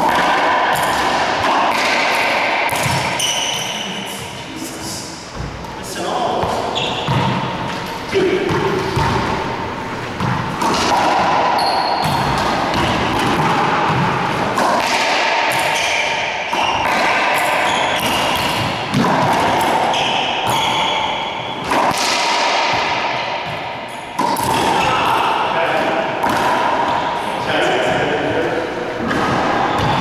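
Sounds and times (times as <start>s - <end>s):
racquetball cracking off racquet and walls: 0.0s - 4.4s, 5.3s - 27.2s, 29.0s - 30.0s.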